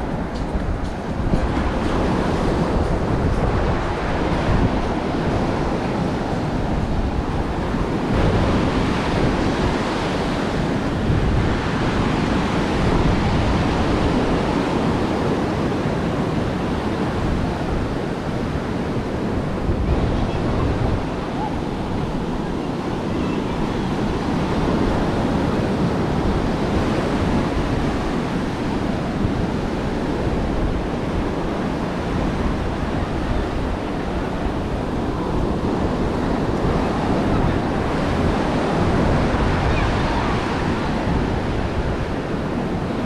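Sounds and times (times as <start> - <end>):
waves breaking on beach: 0.0 - 43.0
wind buffeting microphone: 0.0 - 43.0.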